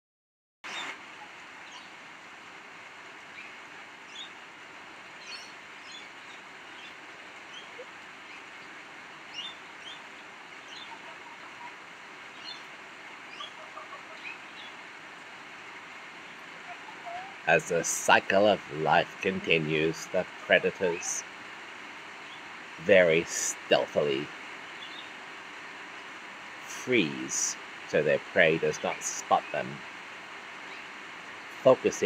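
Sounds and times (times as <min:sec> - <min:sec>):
steady hiss: 0:00.7 - 0:32.0.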